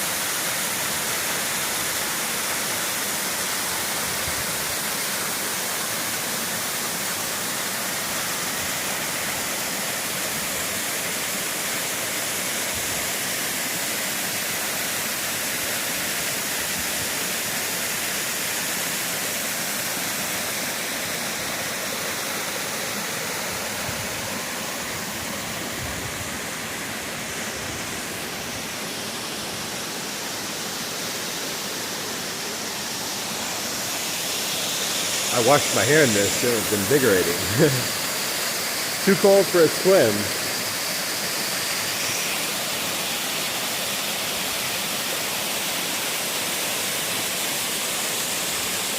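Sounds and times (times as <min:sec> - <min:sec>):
mountain stream rushing: 0:00.0 - 0:48.9.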